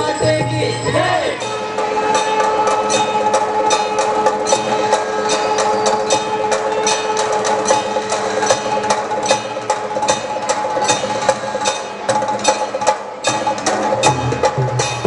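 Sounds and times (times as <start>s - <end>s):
folk dance music: 0.0s - 15.0s
percussion beat of sharp clicks: 1.8s - 15.0s.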